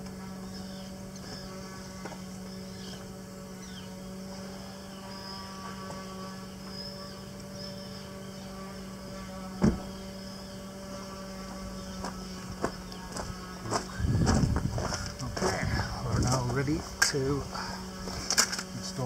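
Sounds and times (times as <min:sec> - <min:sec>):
steady droning hum: 0:00.0 - 0:19.0.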